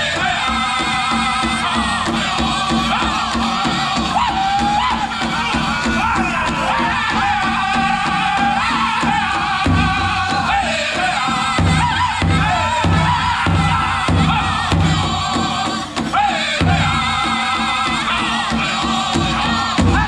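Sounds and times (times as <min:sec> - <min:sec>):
group singing in high wavering voices: 0:00.0 - 0:20.0
large drum steady beat: 0:00.0 - 0:20.0.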